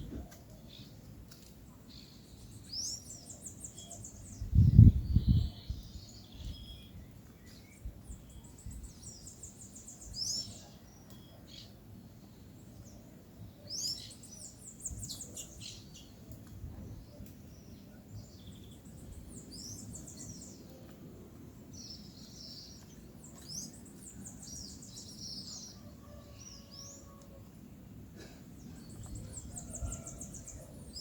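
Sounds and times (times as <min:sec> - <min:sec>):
small songbirds calling: 0:00.0 - 0:31.0.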